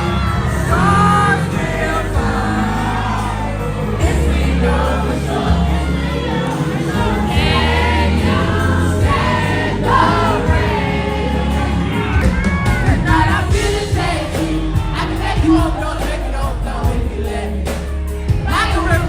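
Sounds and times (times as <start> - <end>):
band bass: 0.0 - 19.0
faint crowd: 0.0 - 19.0.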